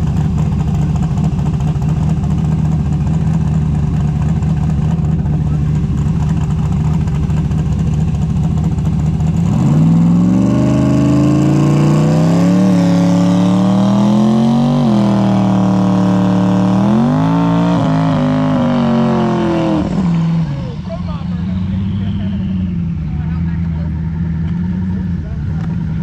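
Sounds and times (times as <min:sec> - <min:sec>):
drag car engine revving: 0:00.0 - 0:26.0.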